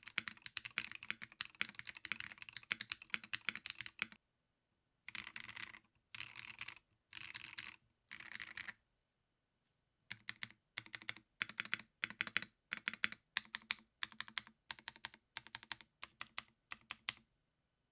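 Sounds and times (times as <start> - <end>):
mechanical keyboard typing: 0.0 - 4.2, 5.1 - 8.8, 10.1 - 17.2.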